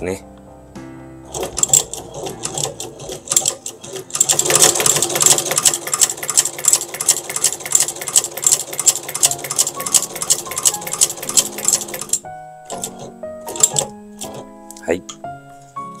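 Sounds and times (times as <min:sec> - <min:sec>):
sewing machine clattering: 0:01.3 - 0:14.4.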